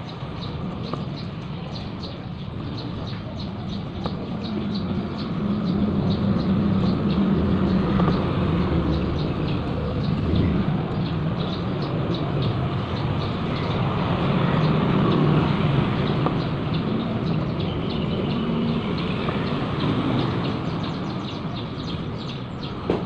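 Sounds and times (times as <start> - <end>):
low rumbling noise: 0.0 - 23.0.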